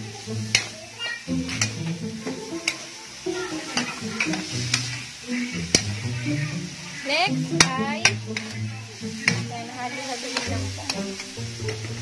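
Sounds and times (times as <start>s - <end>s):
food sizzling: 0.0s - 12.0s
metal spatula scraping a wok: 0.4s - 12.0s.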